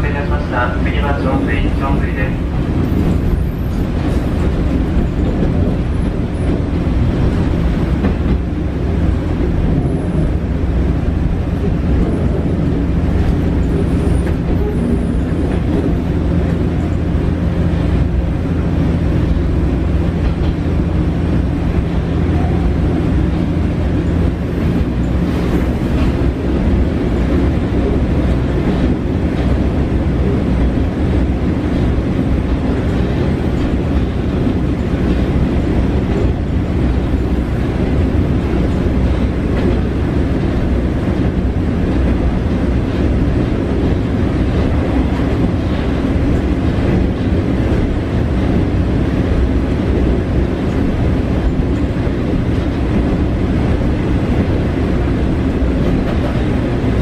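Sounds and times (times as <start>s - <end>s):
diesel engine hum: 0.0s - 57.0s
train wheels rumbling on rails: 0.0s - 57.0s.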